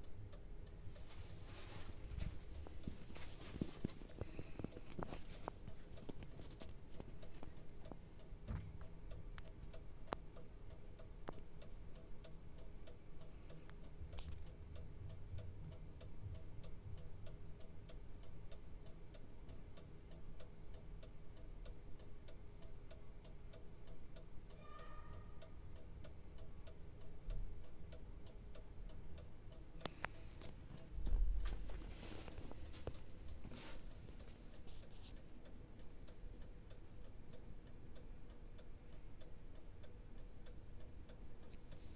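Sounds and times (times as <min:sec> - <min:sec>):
mechanical clock ticking: 0:00.0 - 0:41.9.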